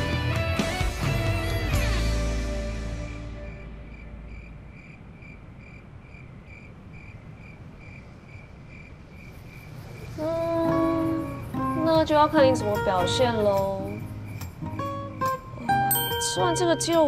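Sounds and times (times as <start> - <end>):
cricket chirping: 3.0 - 17.0.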